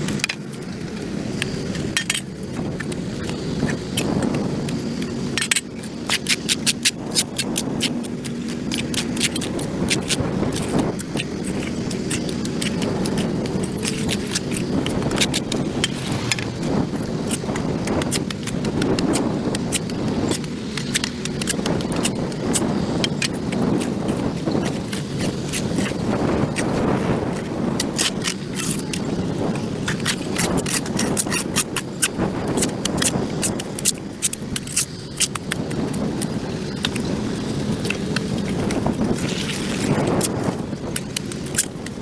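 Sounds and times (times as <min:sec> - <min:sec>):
hand tool scraping concrete: 0:00.0 - 0:42.0.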